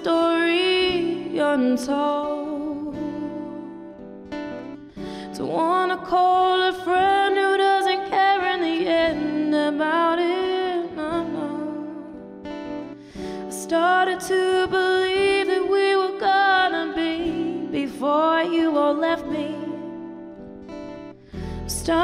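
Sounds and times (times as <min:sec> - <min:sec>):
woman singing into microphone: 0:00.0 - 0:04.1, 0:05.0 - 0:12.6, 0:13.2 - 0:20.2, 0:21.3 - 0:22.0
acoustic guitar: 0:00.0 - 0:22.0.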